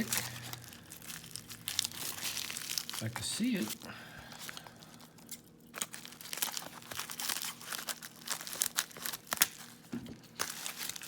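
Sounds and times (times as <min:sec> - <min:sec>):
packing material crinkling and tearing: 0:00.0 - 0:11.0.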